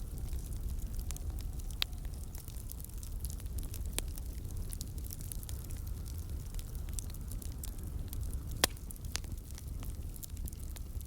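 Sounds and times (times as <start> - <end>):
low fire rumble: 0.0 - 11.0
wood fire crackling: 0.0 - 11.0.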